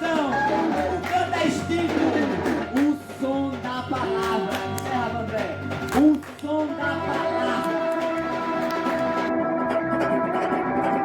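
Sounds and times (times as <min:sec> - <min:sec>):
percussion: 0:00.0 - 0:11.0.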